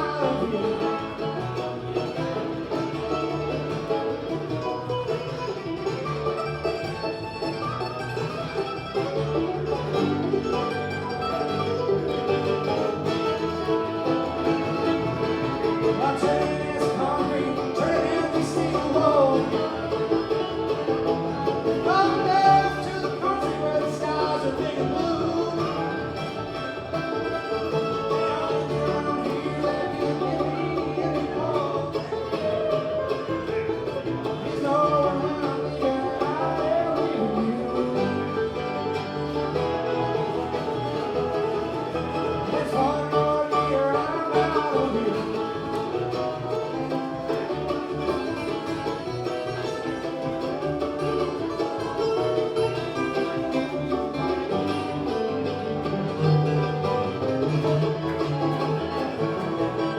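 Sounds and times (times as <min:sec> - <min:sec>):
banjo: 0:00.0 - 0:59.9
bluegrass band playing: 0:00.0 - 0:59.9
guitar: 0:00.0 - 0:59.9.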